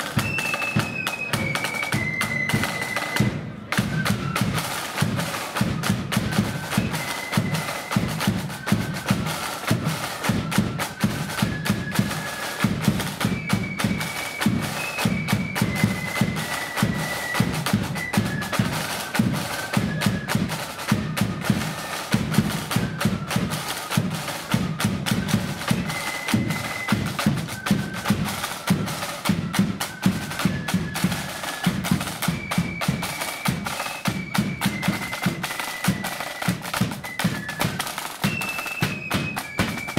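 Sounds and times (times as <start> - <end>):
high flute melody: 0.0 - 39.9
snare drumming: 0.0 - 39.9.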